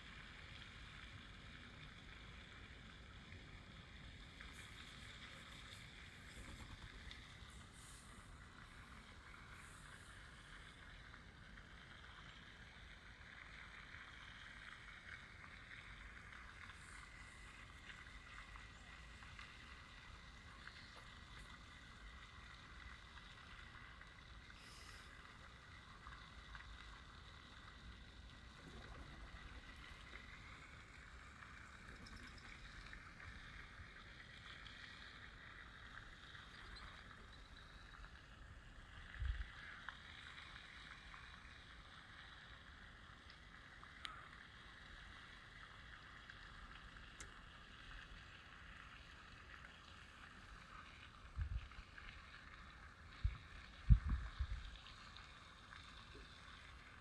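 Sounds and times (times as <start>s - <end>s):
outdoor ambient hiss: 0.0s - 57.0s.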